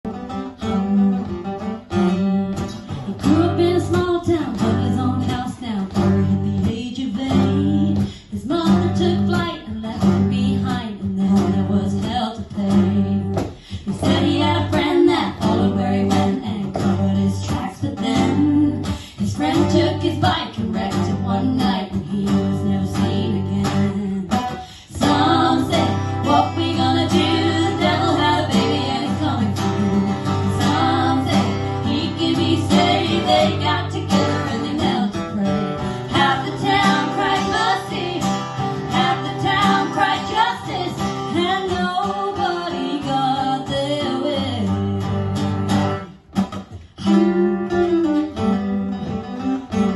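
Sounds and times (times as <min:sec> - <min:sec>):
strummed acoustic guitar: 0:00.1 - 0:49.9
woman singing: 0:03.1 - 0:45.4.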